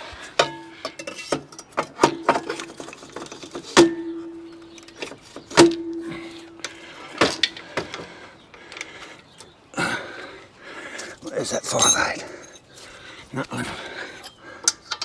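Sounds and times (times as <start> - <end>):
metal tools clanking: 0.4 - 9.5, 11.2 - 12.8, 13.5 - 15.0.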